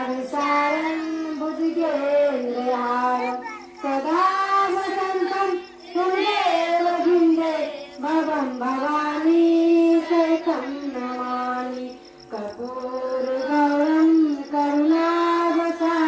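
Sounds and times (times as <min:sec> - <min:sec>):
child singing slow devotional song: 0:00.0 - 0:16.0.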